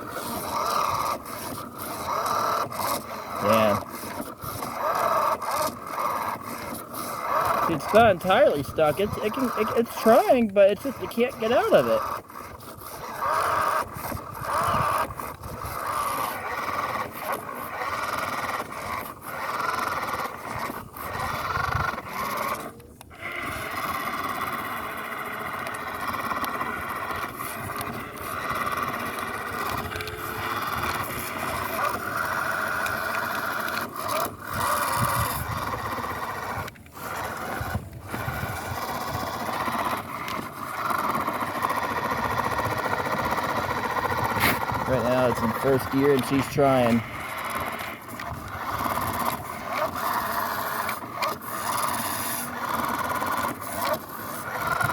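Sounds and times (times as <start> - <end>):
small electric motor whining: 0.0 - 54.9
wheels spinning in sand: 0.0 - 54.9.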